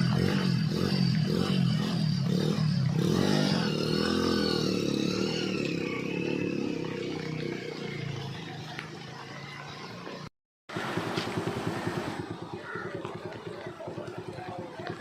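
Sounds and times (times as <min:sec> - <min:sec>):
vehicle engine passing: 0:00.0 - 0:12.4.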